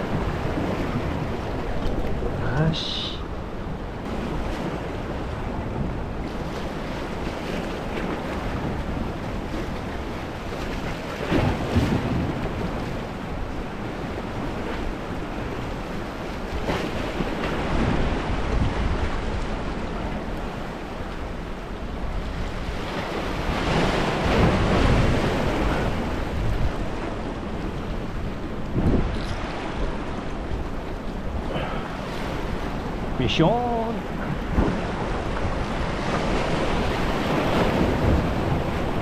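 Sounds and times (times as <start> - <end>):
waves washing and breaking: 0.0 - 39.0
wind buffeting microphone: 3.2 - 33.2, 34.0 - 39.0.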